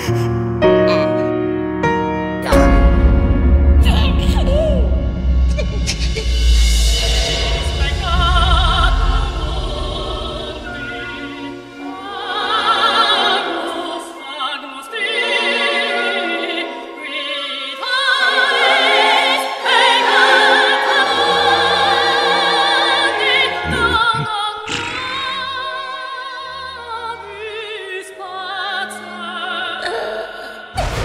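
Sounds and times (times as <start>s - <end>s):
orchestral music: 0.0s - 31.0s
operatic singing: 3.8s - 31.0s.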